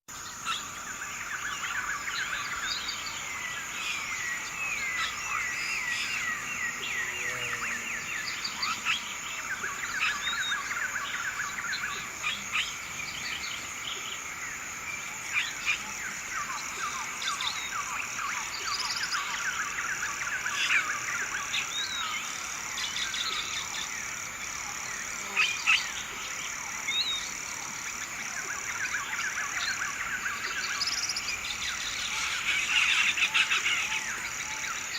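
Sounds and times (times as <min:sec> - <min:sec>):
birds chirping and trilling: 0:00.1 - 0:34.9
steady high-pitched hiss: 0:00.1 - 0:34.9.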